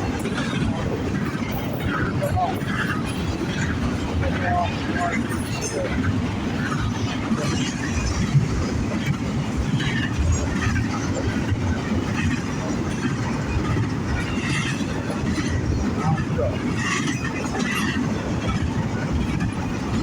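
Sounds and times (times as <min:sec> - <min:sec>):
freight train rumbling past: 0:00.0 - 0:20.0
wheels clacking over rail joints: 0:00.0 - 0:20.0.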